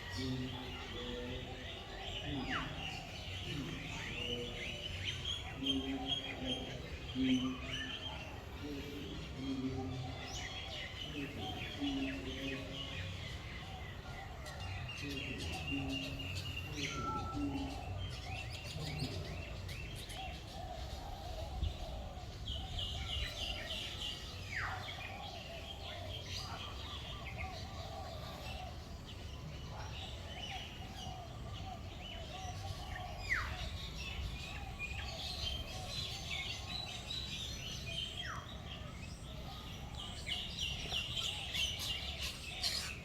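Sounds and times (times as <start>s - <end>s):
birds chirping and calling: 0.0s - 43.0s.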